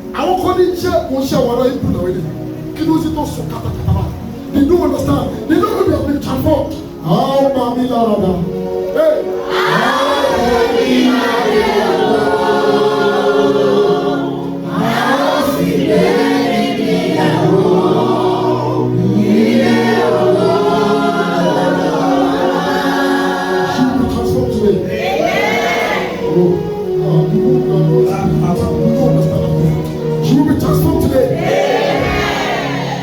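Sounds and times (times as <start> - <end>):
choir singing gospel: 0.0 - 33.0.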